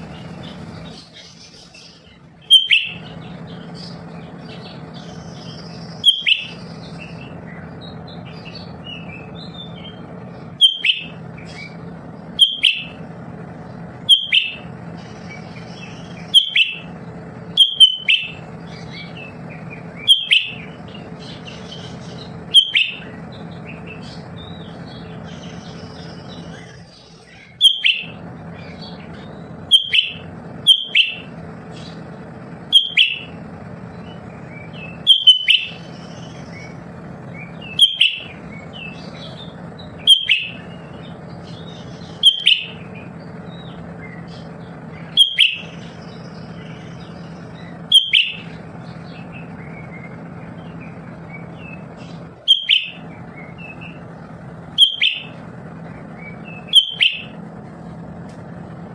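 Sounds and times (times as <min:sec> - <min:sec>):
bird chirping: 0:00.0 - 0:58.9
steady low hum: 0:00.0 - 0:58.9.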